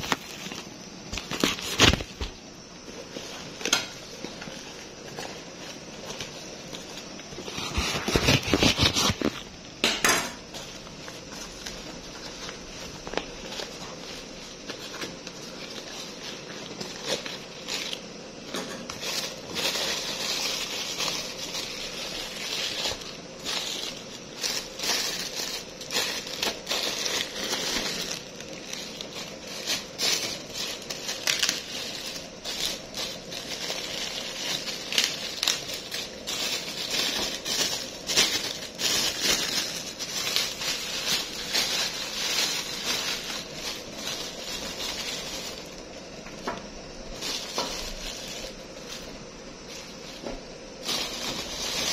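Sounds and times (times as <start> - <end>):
bubble wrap and plastic crinkling: 0.0 - 51.9.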